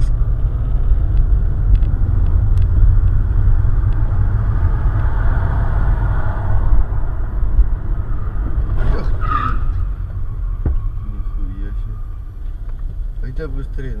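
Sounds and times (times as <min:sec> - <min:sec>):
moving car rumble: 0:00.0 - 0:14.0.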